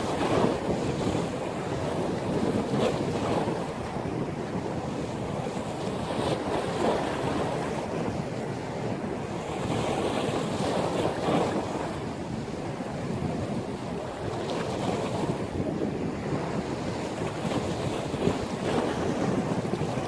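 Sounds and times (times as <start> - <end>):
surf waves breaking: 0.0 - 20.0
wind buffeting microphone: 0.0 - 20.0.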